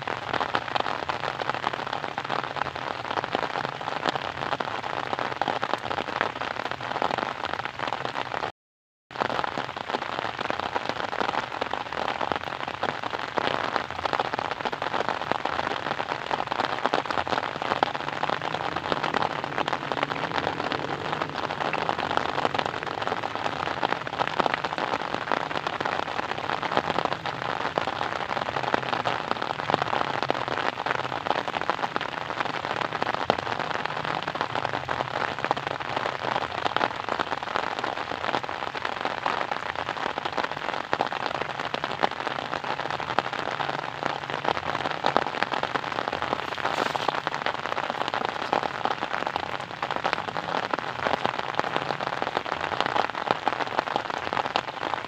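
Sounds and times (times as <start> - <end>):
steady rain patter: 0.0 - 8.5, 9.1 - 55.0.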